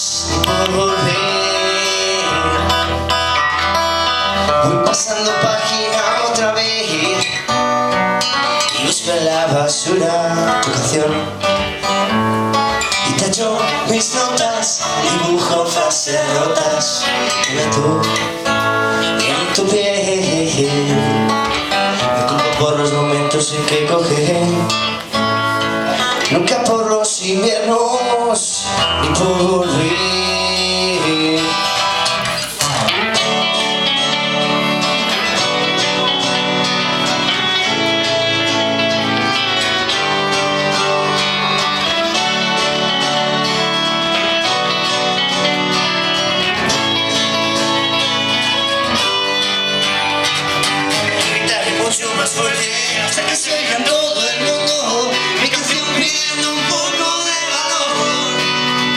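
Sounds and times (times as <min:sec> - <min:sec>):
live band playing instrumental: 0:00.0 - 0:58.9.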